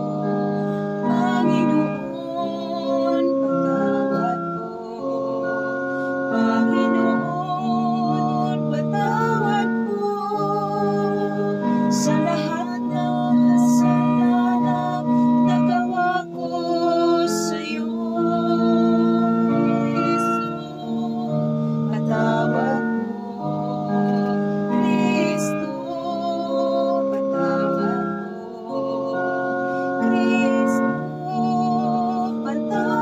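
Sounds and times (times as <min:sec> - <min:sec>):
sustained accompanying chords: 0:00.0 - 0:33.0.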